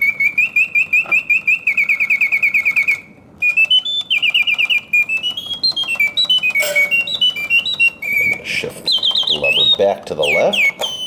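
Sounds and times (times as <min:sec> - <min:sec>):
mechanical birdsong whistle: 0:00.0 - 0:11.0.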